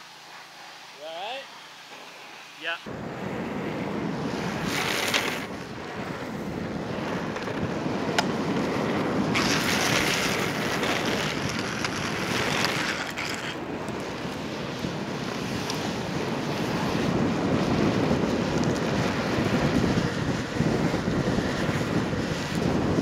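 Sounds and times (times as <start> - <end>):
skateboard wheels rolling on asphalt: 0.0 - 23.0
wheels sliding on road: 0.0 - 23.0
wind noise on microphone: 2.8 - 23.0.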